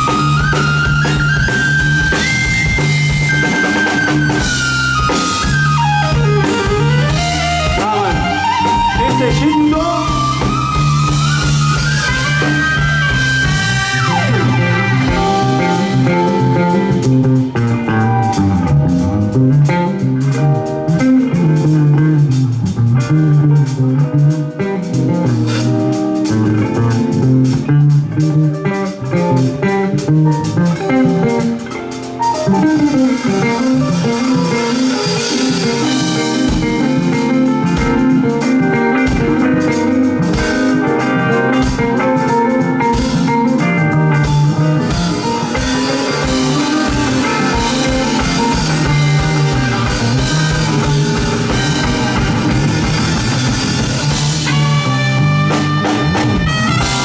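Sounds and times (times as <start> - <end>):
bass guitar: 0.0 - 57.0
drum kit: 0.0 - 57.0
lead guitar: 0.0 - 57.0.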